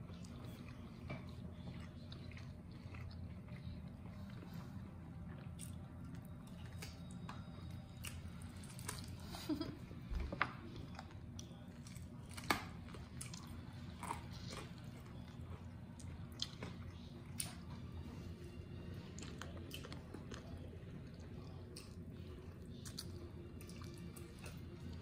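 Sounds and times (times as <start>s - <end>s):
person chewing: 0.0s - 9.6s, 10.2s - 17.9s, 18.8s - 25.0s.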